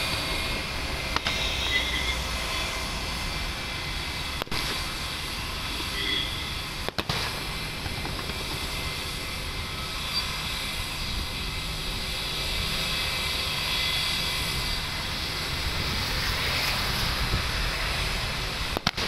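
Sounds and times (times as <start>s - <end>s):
faint high whine: 0.0s - 18.6s
distant jet engine rumble: 0.0s - 19.0s.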